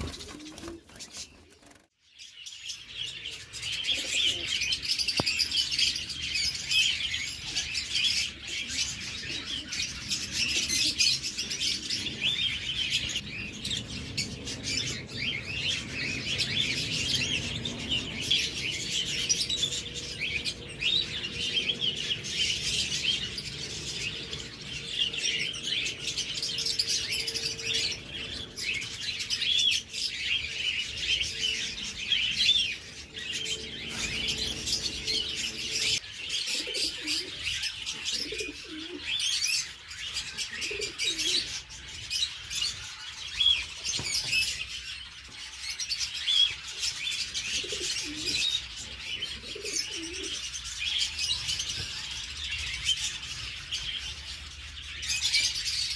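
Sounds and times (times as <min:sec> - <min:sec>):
many small birds chirping: 0:00.0 - 0:55.9.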